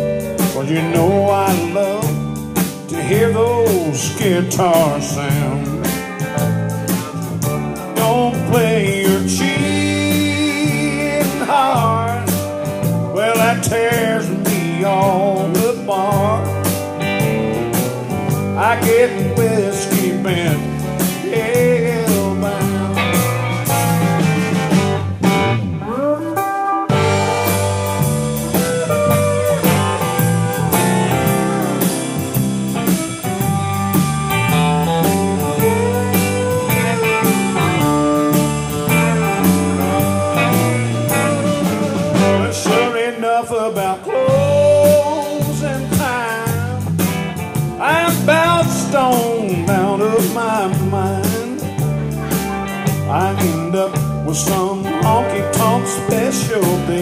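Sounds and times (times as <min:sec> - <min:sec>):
country band playing: 0:00.0 - 0:57.0
sliding guitar lead lines: 0:00.0 - 0:57.0.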